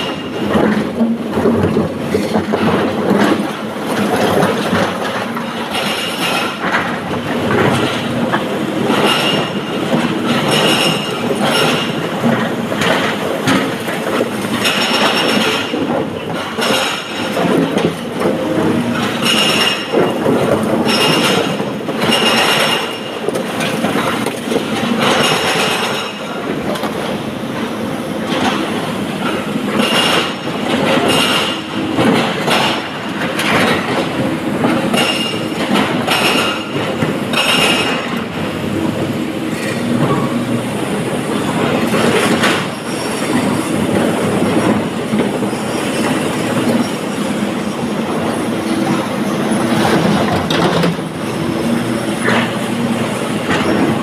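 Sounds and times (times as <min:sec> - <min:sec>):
excavator engine under load: 0:00.0 - 0:54.0.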